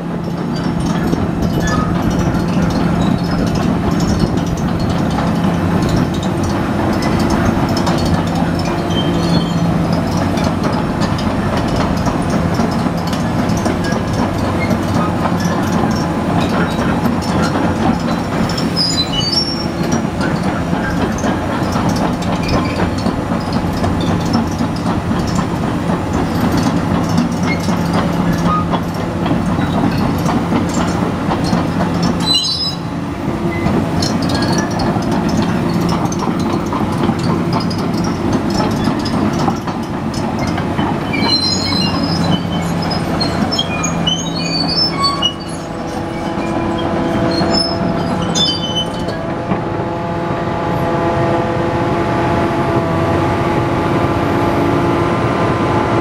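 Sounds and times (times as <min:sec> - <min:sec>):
excavator diesel engine running: 0:00.0 - 0:56.0
high squeaks: 0:00.2 - 0:49.4.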